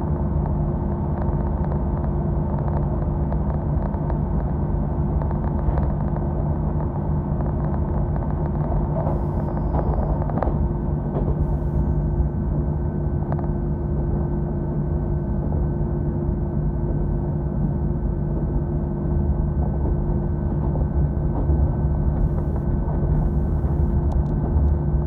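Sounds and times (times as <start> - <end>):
diesel engine drone with whine: 0.0 - 25.0
train running gear rumble: 0.0 - 25.0.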